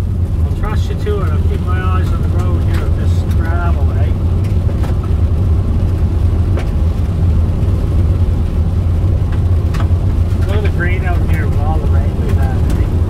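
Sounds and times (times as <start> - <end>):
vehicle driving on gravel: 0.0 - 13.0.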